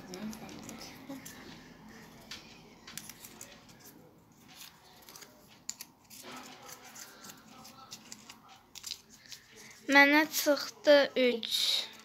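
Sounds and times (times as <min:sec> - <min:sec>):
paper crinkling: 0:00.0 - 0:10.8.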